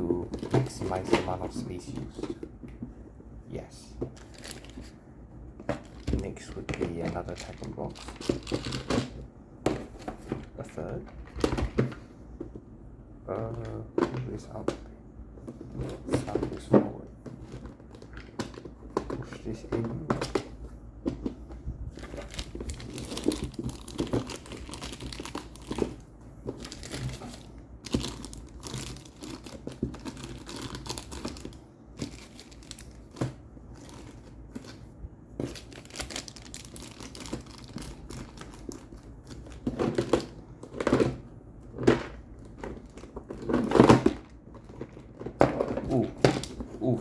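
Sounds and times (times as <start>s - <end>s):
plastic pieces and cards rustling: 0.0s - 2.8s, 3.7s - 5.0s, 5.6s - 12.0s, 15.5s - 47.0s.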